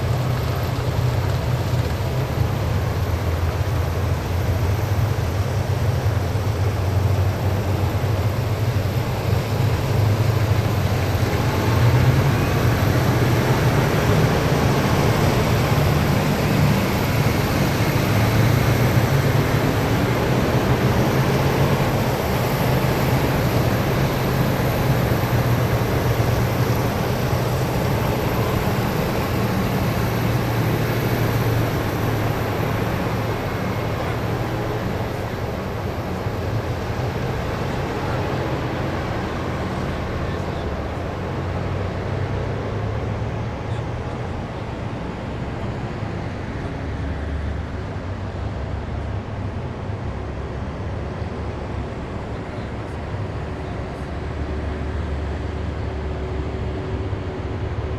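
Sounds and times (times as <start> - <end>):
heavy vehicle engines droning: 0.0 - 57.9
road noise: 0.0 - 57.9.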